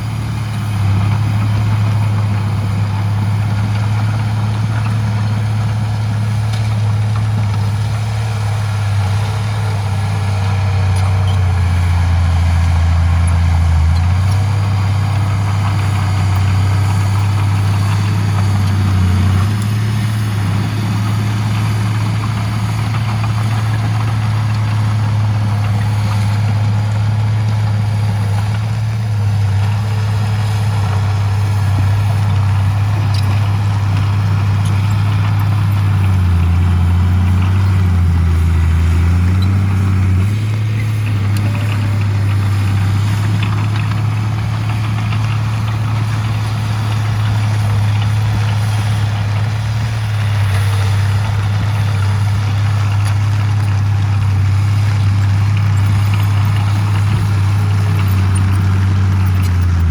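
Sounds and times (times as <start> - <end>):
heavy machinery diesel engine: 0.0 - 59.9.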